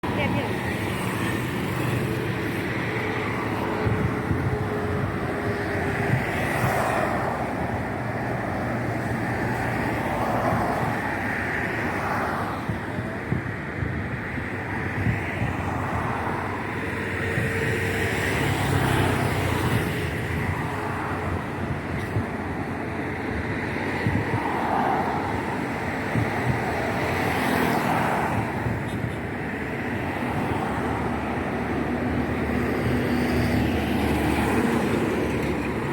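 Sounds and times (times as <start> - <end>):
street traffic: 0.0 - 35.9.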